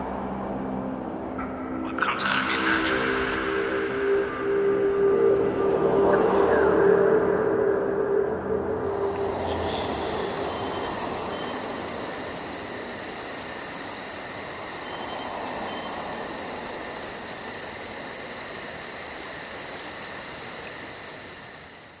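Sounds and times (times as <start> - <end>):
crickets chirping: 0.1 - 22.0
soft night ambience hiss: 0.1 - 22.0.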